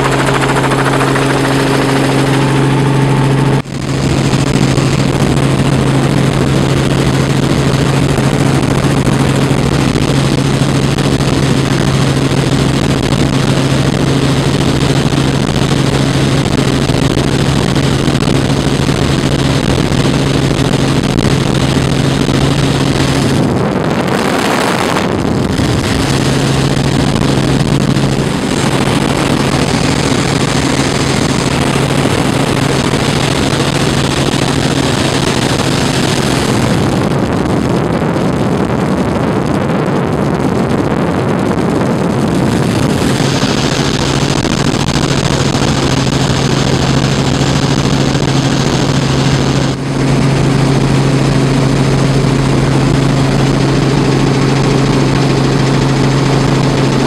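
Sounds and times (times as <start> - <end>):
helicopter engine and rotors drone: 0.0 - 57.0.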